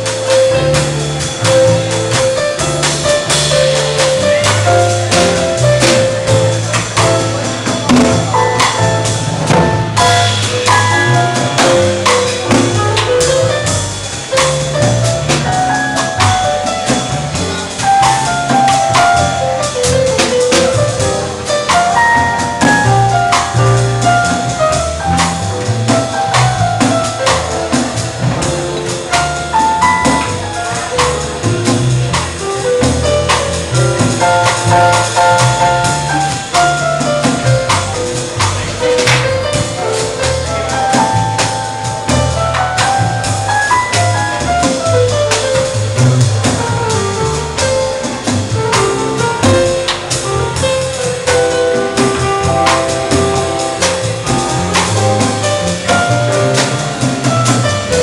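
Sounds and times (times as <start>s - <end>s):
keyboard melody: 0.0s - 58.0s
light drums: 0.0s - 58.0s
plucked double bass: 0.0s - 58.0s.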